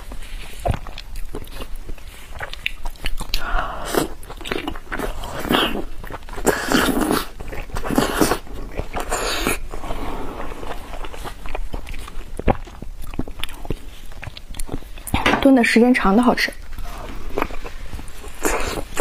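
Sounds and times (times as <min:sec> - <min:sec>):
chewing with wet mouth clicks: 0:00.0 - 0:15.2, 0:17.3 - 0:19.0.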